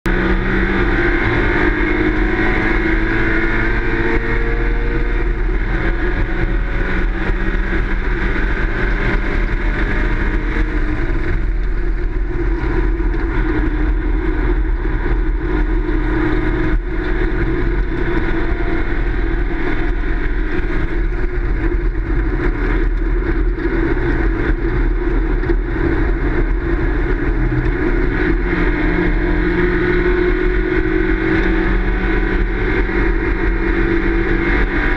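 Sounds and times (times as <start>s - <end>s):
race car engine at speed: 0.0s - 34.9s.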